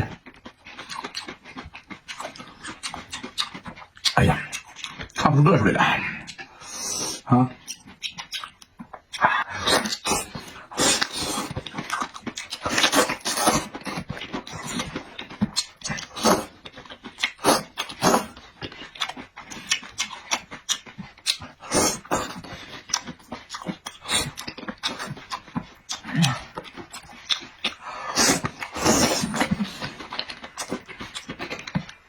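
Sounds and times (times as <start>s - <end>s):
wet chewing and lip smacking: 0.0s - 5.3s, 6.1s - 32.0s.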